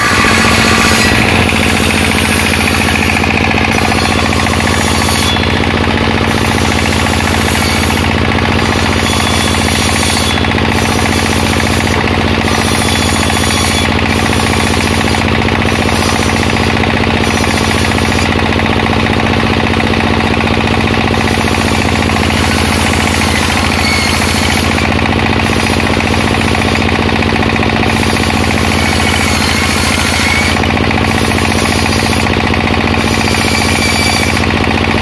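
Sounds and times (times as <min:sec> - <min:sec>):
bench circular saw running: 0:00.0 - 0:35.0
saw blade ripping wood: 0:00.0 - 0:35.0.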